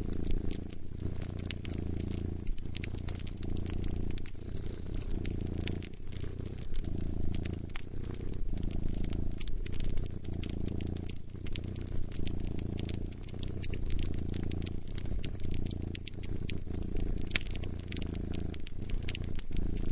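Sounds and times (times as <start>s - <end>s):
cat purring: 0.0s - 19.9s
wood fire crackling: 0.0s - 19.9s.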